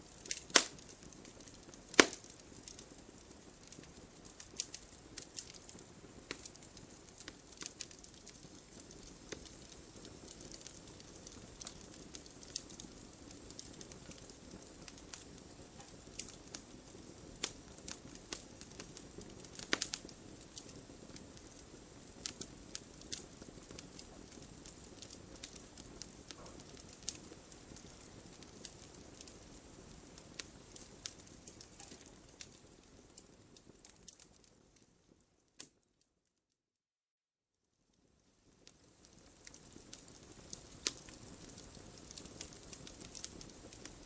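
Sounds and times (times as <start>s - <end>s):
fire crackling and popping: 0.0s - 36.0s, 37.9s - 44.0s.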